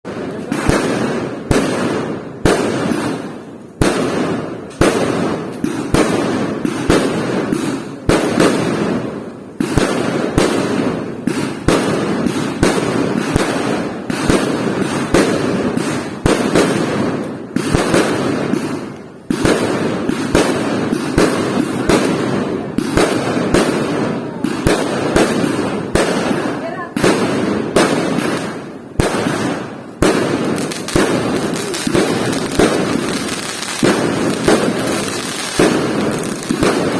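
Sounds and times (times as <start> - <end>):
fireworks bangs with crackling: 0.0 - 36.9.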